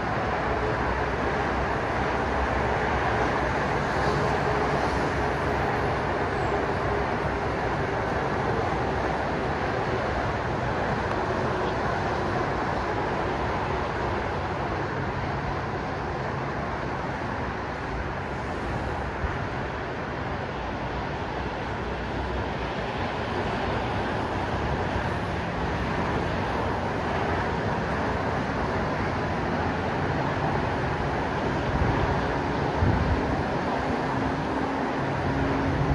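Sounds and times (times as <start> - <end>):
hum of road traffic: 0.0 - 35.9.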